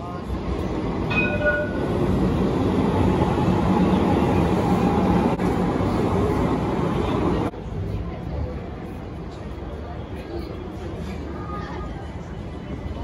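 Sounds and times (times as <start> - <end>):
tram rolling on rails: 0.0 - 13.0.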